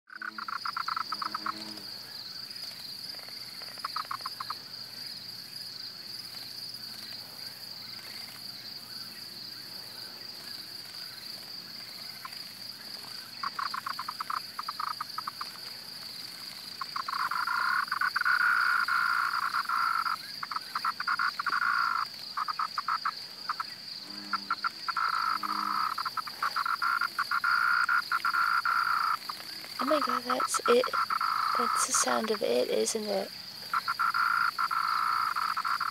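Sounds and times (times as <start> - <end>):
cicada buzzing weakly: 0.1 - 35.9
high-pitched insect whine: 0.1 - 35.9.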